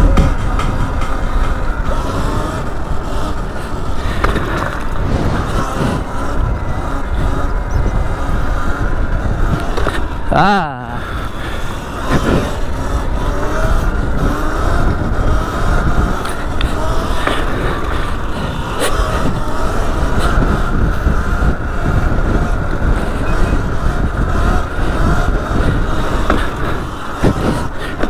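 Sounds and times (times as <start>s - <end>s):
electric motor whine: 0.0s - 28.0s
tyres ticking on loose dirt: 0.0s - 28.0s
wind noise on microphone: 0.0s - 28.0s.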